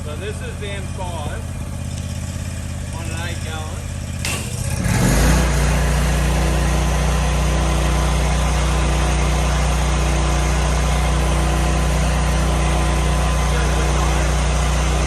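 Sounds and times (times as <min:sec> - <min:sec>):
pressure washer engine humming: 0:00.0 - 0:15.0.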